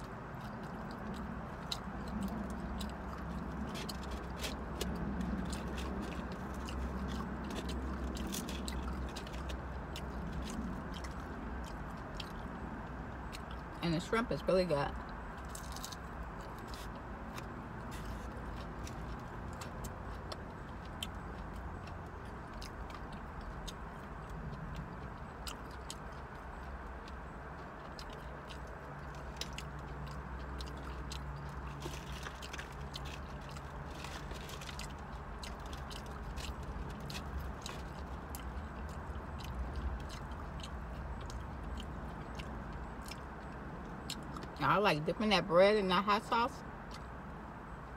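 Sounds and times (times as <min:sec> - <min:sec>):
person chewing fried food: 0:00.0 - 0:14.1, 0:14.9 - 0:44.6, 0:46.5 - 0:47.9.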